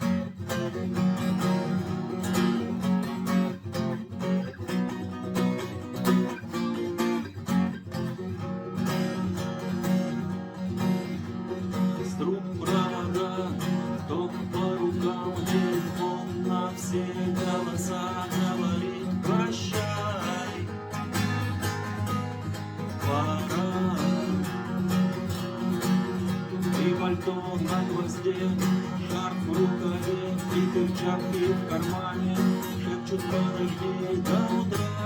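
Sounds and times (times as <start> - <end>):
acoustic guitar strumming: 0.0 - 35.0
gliding guitar melody: 0.0 - 35.0.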